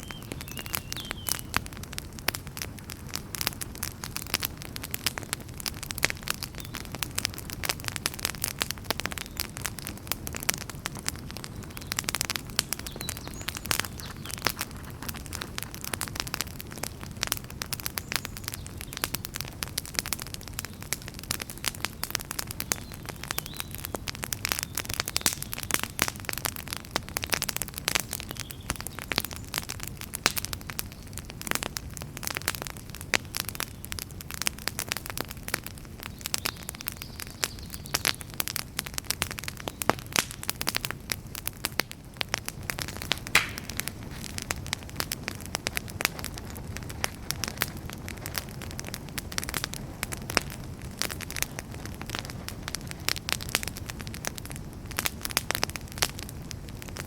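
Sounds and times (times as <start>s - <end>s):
campfire crackling and popping: 0.0s - 57.0s
hiss from burning wood: 0.0s - 57.0s
low rumble of flame: 0.0s - 57.0s.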